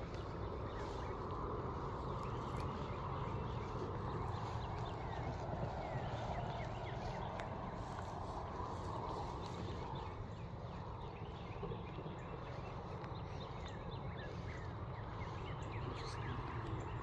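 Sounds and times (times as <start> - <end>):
footsteps through grass: 0.0 - 17.0.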